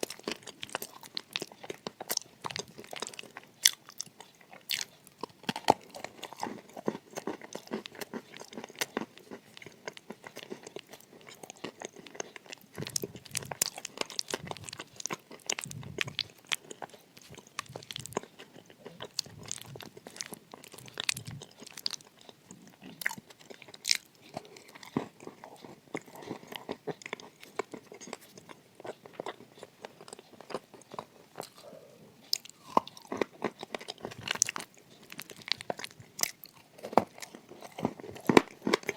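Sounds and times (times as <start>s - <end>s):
crunching and chewing clay: 0.0s - 38.9s.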